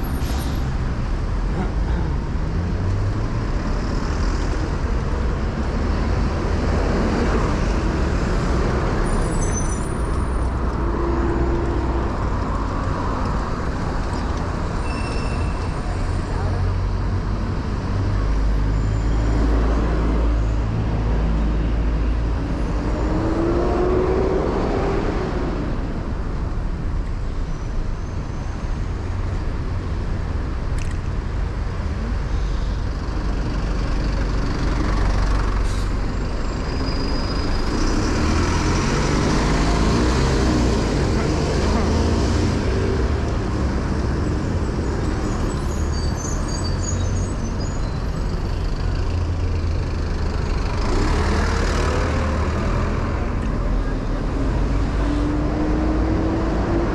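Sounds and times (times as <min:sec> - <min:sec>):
low traffic rumble: 0:00.0 - 0:56.9
vehicles passing close by: 0:00.0 - 0:56.9.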